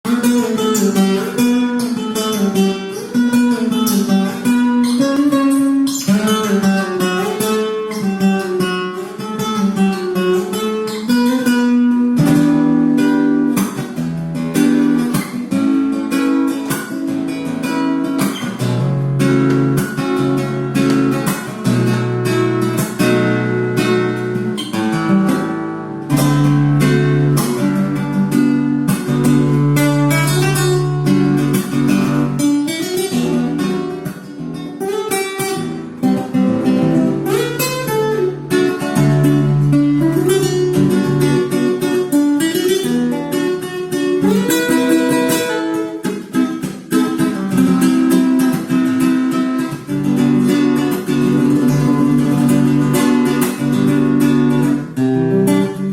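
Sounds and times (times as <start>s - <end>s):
flamenco guitar playing: 0.0s - 55.9s.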